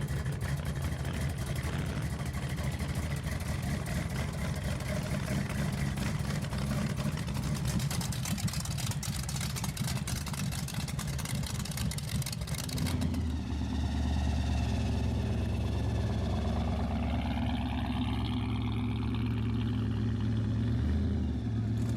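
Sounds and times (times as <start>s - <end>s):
deep engine drone: 0.0s - 21.9s
loud car engine popping: 0.0s - 21.9s.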